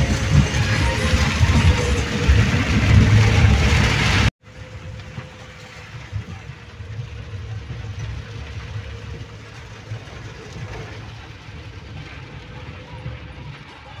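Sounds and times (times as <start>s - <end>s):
tyres on wet road: 0.0s - 14.0s.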